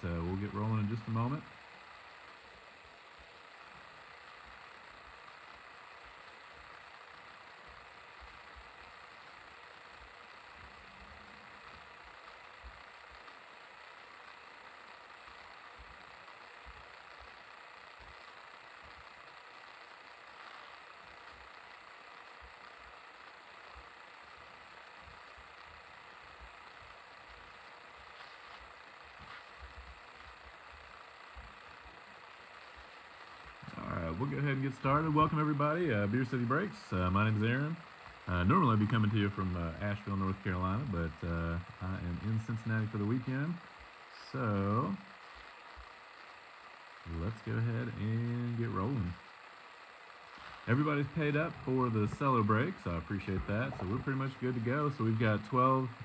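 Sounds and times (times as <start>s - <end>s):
room tone hum and hiss: 0.0s - 56.0s.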